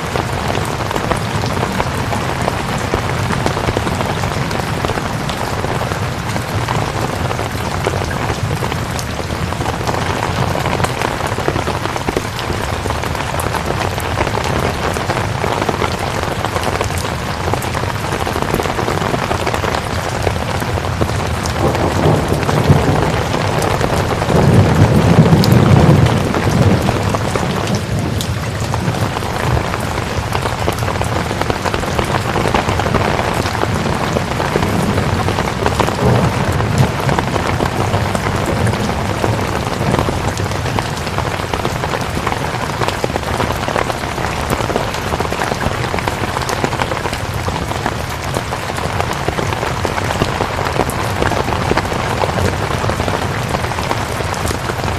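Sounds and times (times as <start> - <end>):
thunder rumble: 0.0 - 47.7
rain falling: 0.0 - 54.9.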